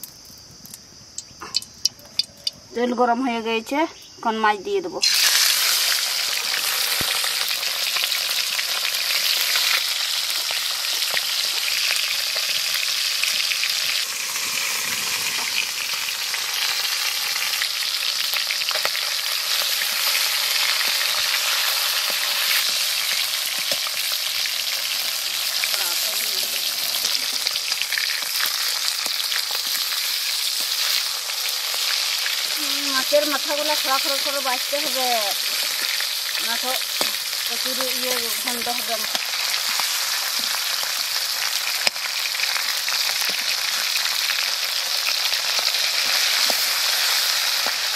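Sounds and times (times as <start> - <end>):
fish frying in oil: 5.0 - 47.9.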